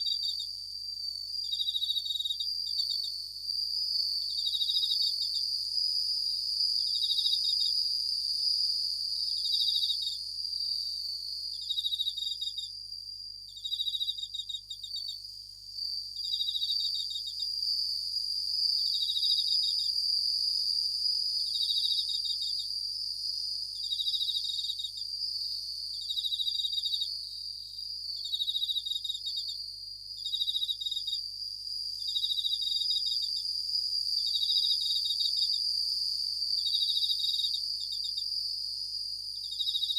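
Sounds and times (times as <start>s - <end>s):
crickets chirping: 0.0s - 39.9s
steady insect ringing: 0.0s - 39.9s.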